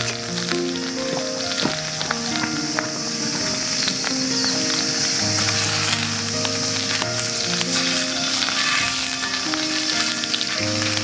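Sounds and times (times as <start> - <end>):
patty sizzling in frying pan: 0.0 - 11.0
soft background music: 0.0 - 11.0.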